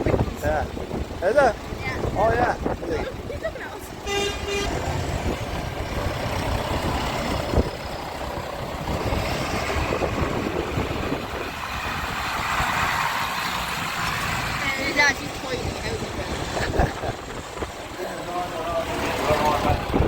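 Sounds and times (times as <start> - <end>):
tractor engines driving past: 0.0 - 20.0.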